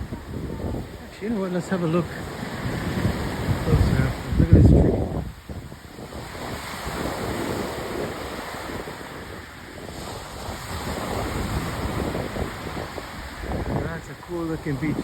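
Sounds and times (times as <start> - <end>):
sea waves on beach: 0.0 - 15.0
wind buffeting microphone: 0.0 - 15.0.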